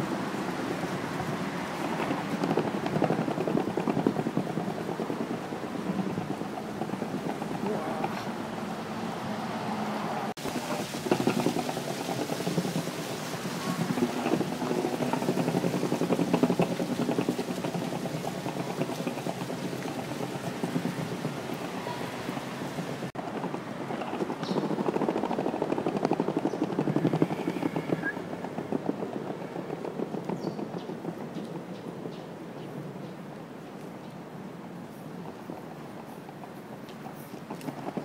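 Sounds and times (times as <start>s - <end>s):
skateboard wheels rolling on bricks: 0.0s - 9.3s, 10.3s - 38.0s.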